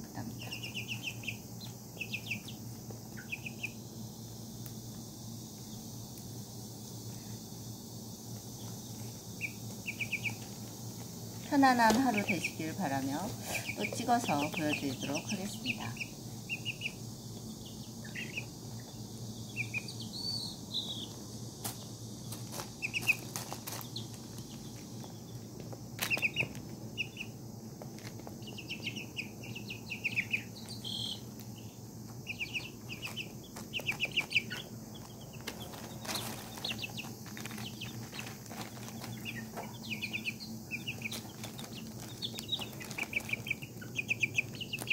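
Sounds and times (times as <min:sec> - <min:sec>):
chicks peeping: 0:00.2 - 0:03.9, 0:08.4 - 0:44.9.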